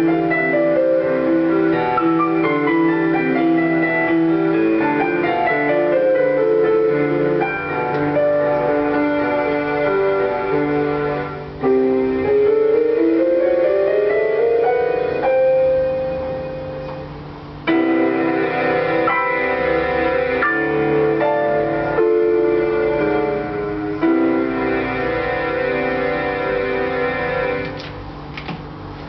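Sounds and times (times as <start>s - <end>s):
solo piano piece: 0.0s - 29.0s.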